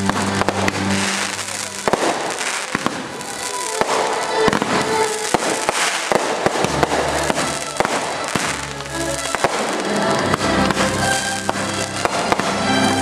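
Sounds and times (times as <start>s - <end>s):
fireworks bangs: 0.0s - 13.0s
music: 0.0s - 13.0s.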